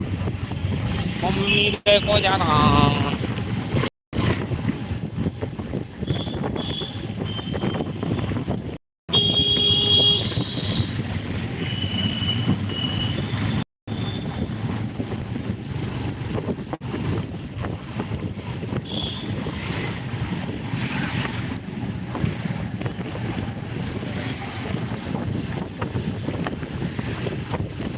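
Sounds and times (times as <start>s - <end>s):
wind rumbling on microphone: 0.0s - 27.9s.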